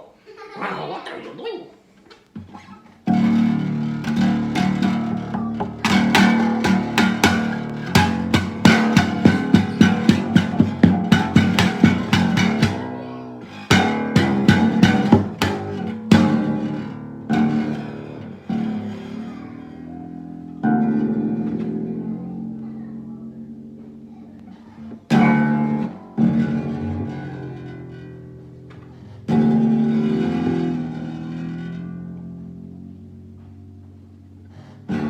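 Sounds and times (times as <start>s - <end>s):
ukulele strumming: 2.4s - 35.0s.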